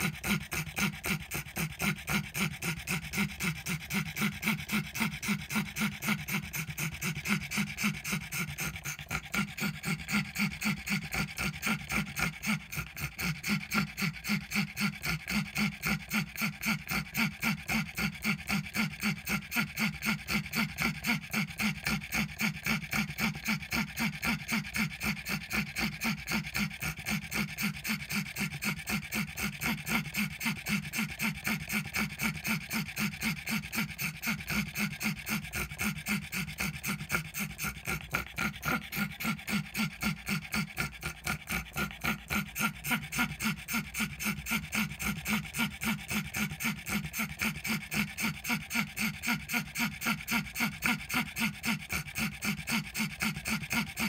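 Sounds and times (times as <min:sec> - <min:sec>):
dog panting and wheezing: 0:00.0 - 0:54.0.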